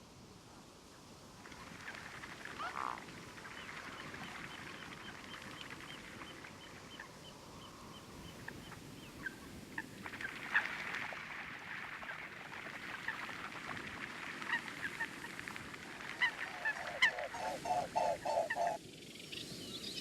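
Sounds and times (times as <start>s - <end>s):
faint background hiss: 0.0s - 20.0s.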